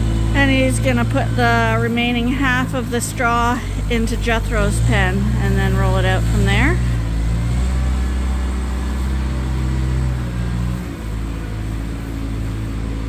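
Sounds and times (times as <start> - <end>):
skid steer engine running: 0.0 - 13.0.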